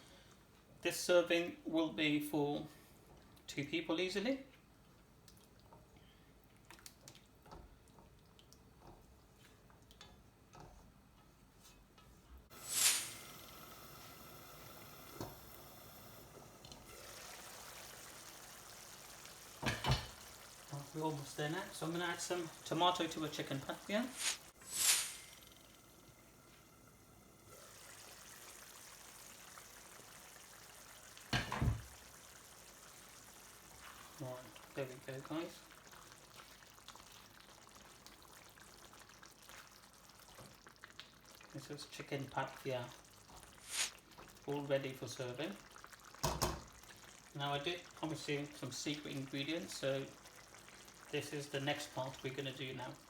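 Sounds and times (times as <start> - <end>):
sauce simmering in a pan: 2.6 - 53.0.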